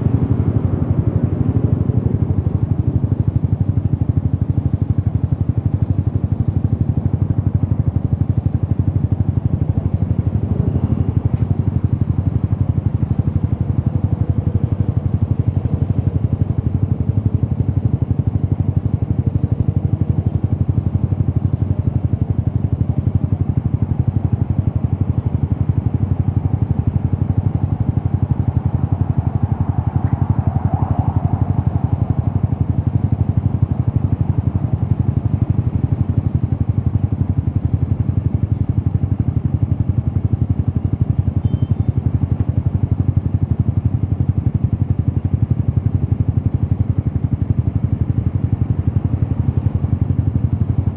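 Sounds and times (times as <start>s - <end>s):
motorcycle engine running steadily: 0.0s - 50.9s.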